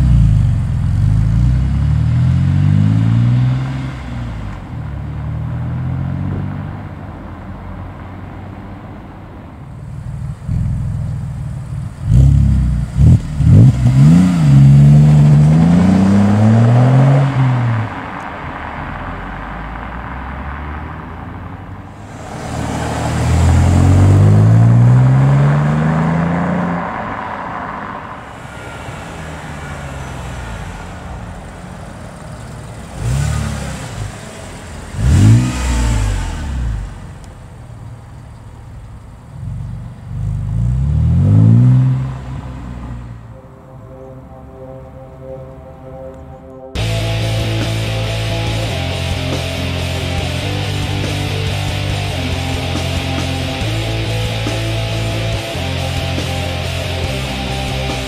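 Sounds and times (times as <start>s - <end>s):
car engine idling: 0.0s - 3.1s, 6.7s - 44.9s, 46.4s - 58.0s
car engine revving: 0.0s - 58.0s.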